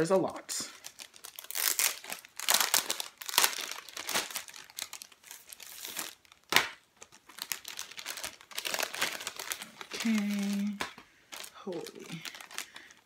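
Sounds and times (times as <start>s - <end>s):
packaging crinkling and rustling: 0.7s - 13.0s.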